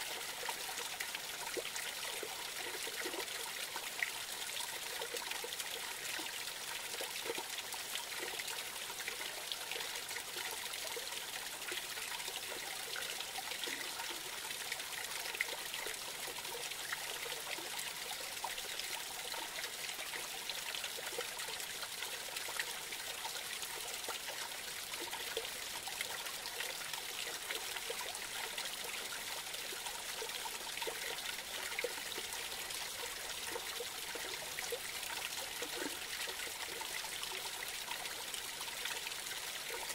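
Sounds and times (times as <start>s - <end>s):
creek trickling and splashing: 0.0s - 39.9s.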